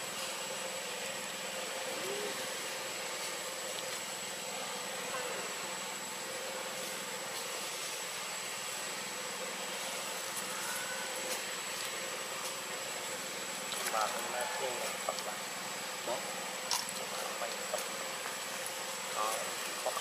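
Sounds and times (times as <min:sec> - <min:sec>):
outdoor background hum and hiss: 0:00.0 - 0:20.0
thin constant high tone: 0:00.0 - 0:20.0.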